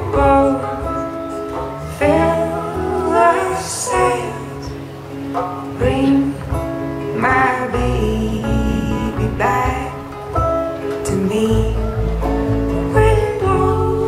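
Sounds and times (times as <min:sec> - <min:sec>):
upright bass line: 0:00.0 - 0:04.9, 0:05.8 - 0:14.0
folk string band playing: 0:00.0 - 0:14.0
woman singing: 0:00.0 - 0:14.0.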